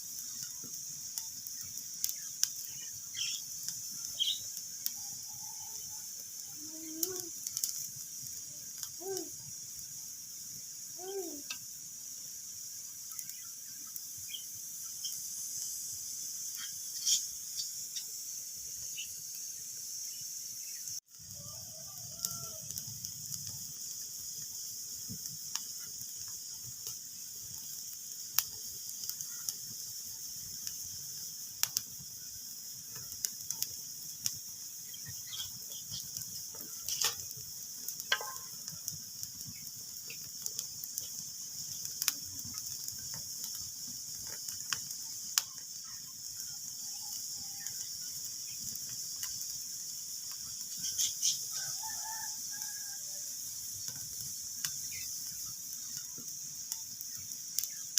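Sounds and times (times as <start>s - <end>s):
wood fire crackling and popping: 0.0s - 19.4s, 21.0s - 53.0s, 53.6s - 57.9s.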